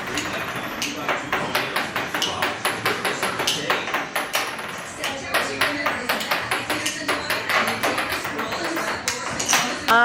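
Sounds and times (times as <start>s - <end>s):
sharp percussive taps: 0.0s - 10.0s.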